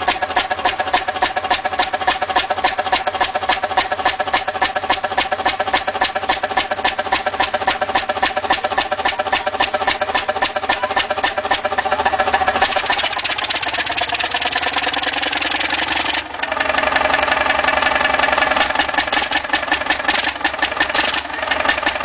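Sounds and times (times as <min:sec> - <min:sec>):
old engine clattering: 0:00.0 - 0:22.0.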